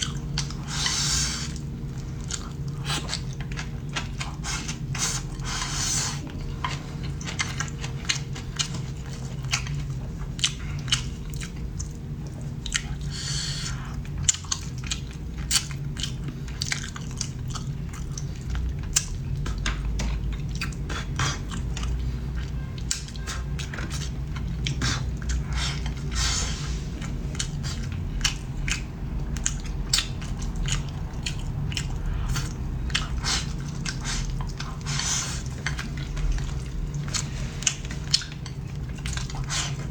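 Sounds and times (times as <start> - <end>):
person chewing food: 0.0 - 39.9
steady low hum: 0.0 - 39.9.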